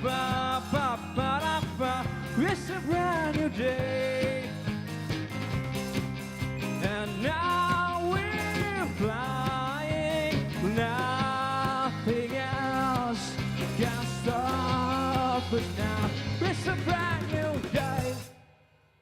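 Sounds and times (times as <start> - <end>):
steady bass line: 0.0 - 18.3.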